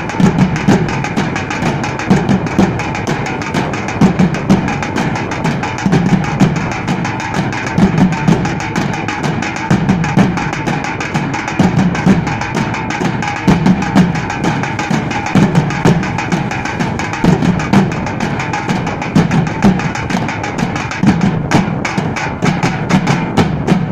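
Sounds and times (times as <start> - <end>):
metal drums beaten with sticks: 0.0 - 23.9.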